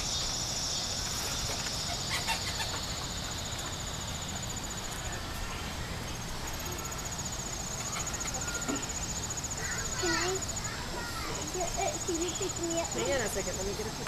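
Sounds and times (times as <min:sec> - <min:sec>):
insect trill: 0:00.0 - 0:05.3, 0:06.1 - 0:14.0
low background noise: 0:00.0 - 0:14.0.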